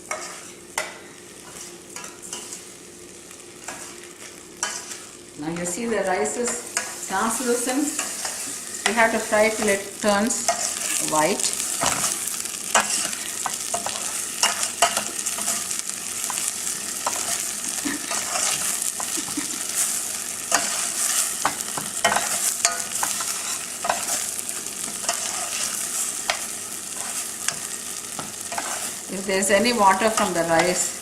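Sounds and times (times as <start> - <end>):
rice sizzling in a pan: 0.0 - 31.0.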